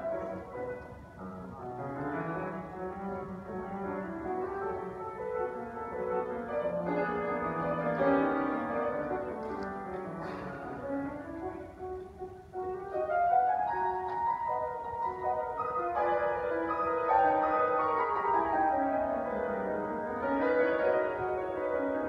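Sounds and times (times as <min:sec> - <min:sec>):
grand piano playing: 0:00.0 - 0:22.0.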